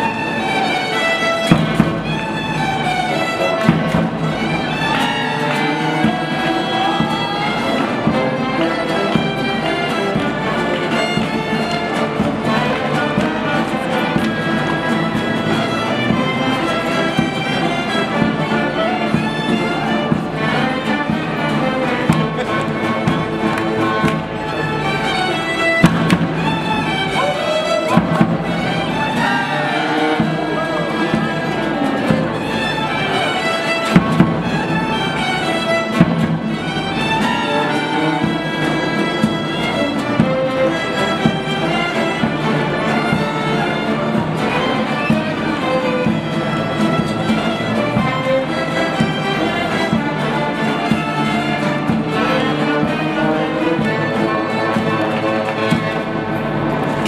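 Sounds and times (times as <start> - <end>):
folk band playing: 0.0 - 57.0.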